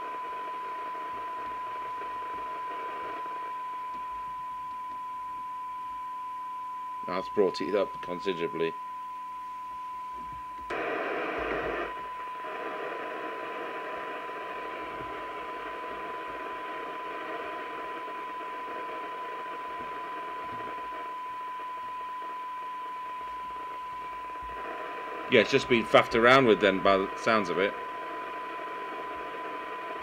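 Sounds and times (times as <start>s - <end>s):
receiver hiss: 0.0s - 30.0s
steady test tone: 1.0s - 30.0s.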